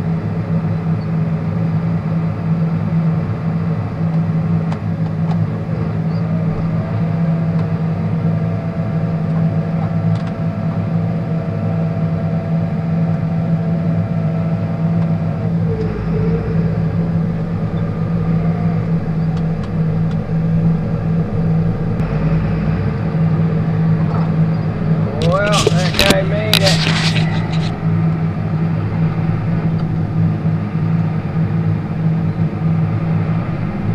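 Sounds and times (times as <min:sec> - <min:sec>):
faint steady whine: 0:00.0 - 0:33.9
tractor engine running: 0:00.0 - 0:33.9
deep low rumble: 0:02.8 - 0:11.6, 0:12.4 - 0:33.9.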